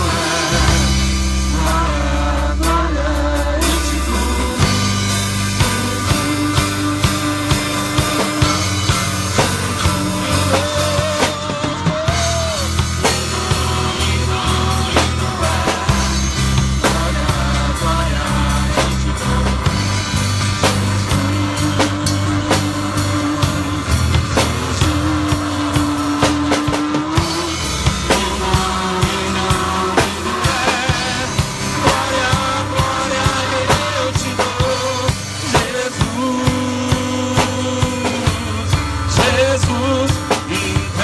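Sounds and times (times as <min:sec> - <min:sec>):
bass line: 0:00.0 - 0:41.0
drum kit beat: 0:00.0 - 0:41.0.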